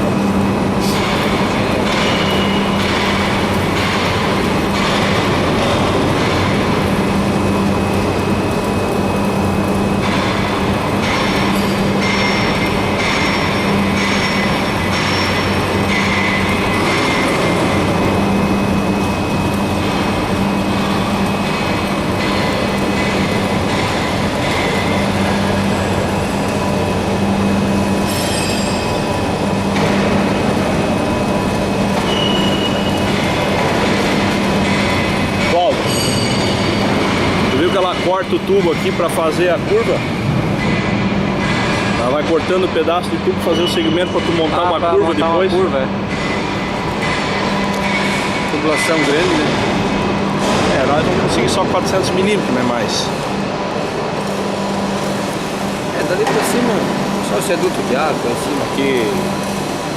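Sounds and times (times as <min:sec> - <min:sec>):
machine low hum: 0:00.0 - 0:59.9.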